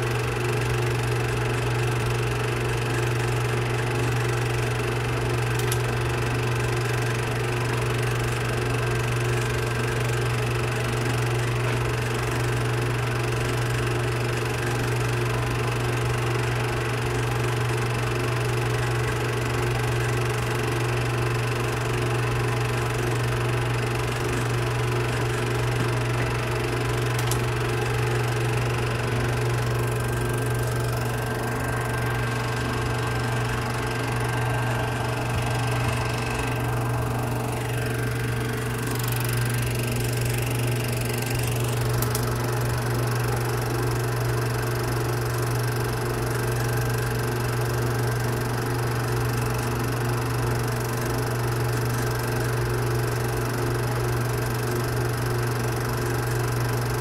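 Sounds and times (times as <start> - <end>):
film projector motor whirring: 0.0 - 57.0.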